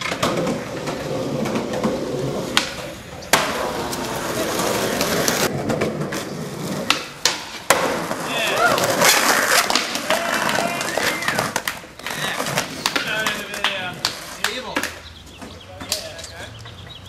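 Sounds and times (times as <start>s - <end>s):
skateboard clacks: 0.0s - 17.0s
skateboard wheels rolling on asphalt: 0.0s - 17.0s.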